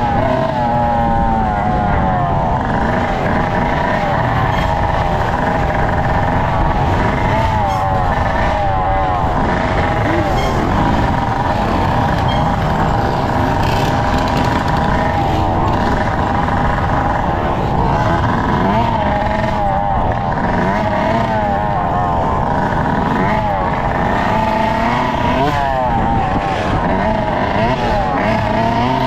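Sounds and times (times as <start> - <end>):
dirt bike engine revving high: 0.0 - 29.0.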